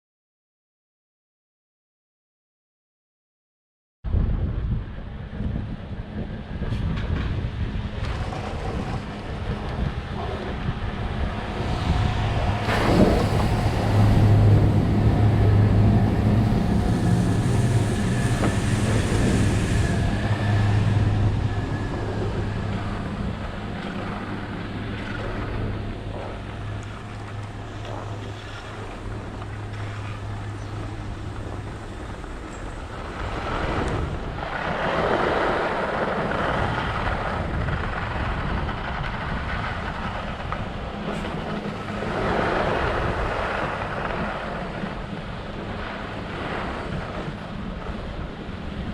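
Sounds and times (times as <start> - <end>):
rushing wind gusts: 4.1 - 48.9
chairlift machinery humming: 7.3 - 48.9.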